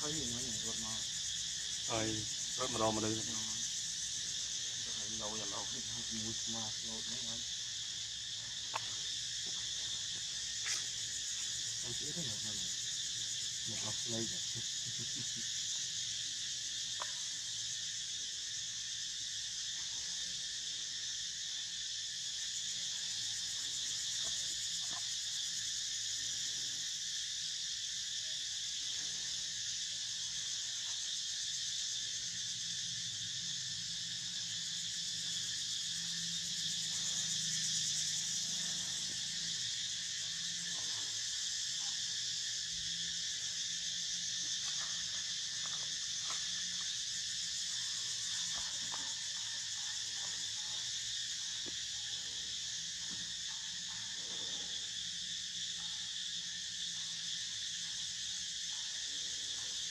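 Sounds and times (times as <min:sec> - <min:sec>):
chorus of insects: 0:00.0 - 0:59.9.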